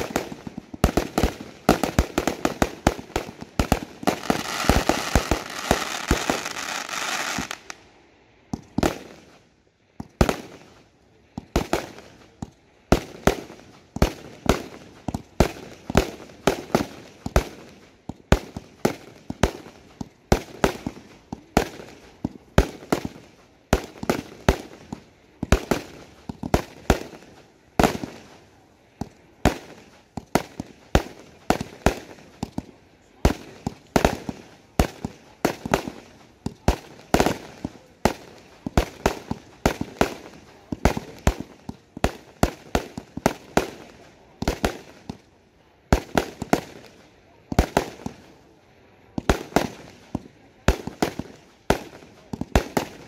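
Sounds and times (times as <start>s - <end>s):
fireworks bangs: 0.0s - 7.8s, 8.5s - 9.4s, 11.4s - 45.3s, 45.9s - 48.3s, 49.2s - 53.0s.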